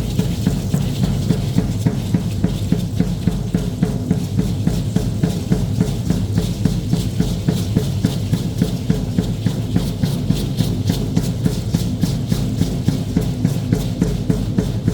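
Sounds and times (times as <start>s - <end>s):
drum beating quickly: 0.0s - 14.9s.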